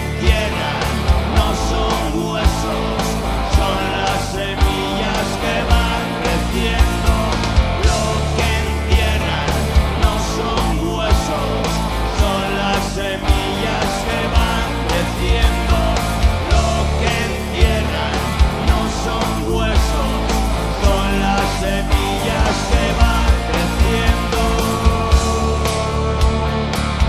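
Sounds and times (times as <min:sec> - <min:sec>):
man singing into a microphone: 0:00.0 - 0:26.4
electric guitars: 0:00.0 - 0:27.0.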